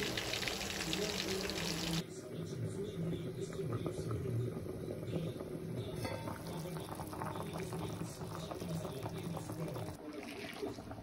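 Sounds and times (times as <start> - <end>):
pot boiling and bubbling: 0.0 - 11.0.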